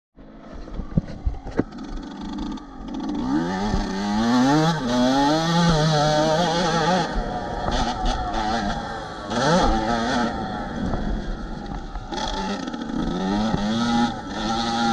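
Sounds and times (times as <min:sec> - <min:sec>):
motocross bike engine revving: 0:00.2 - 0:14.9.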